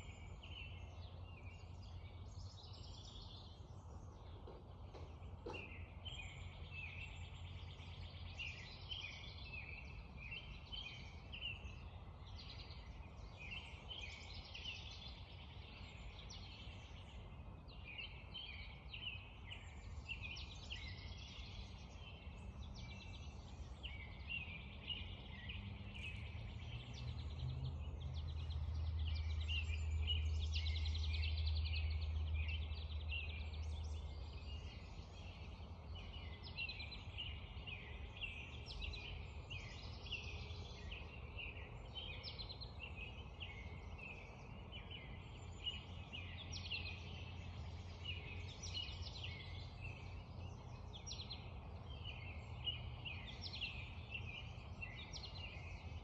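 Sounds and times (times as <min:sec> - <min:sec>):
birds singing in chorus: 0:00.0 - 0:56.0.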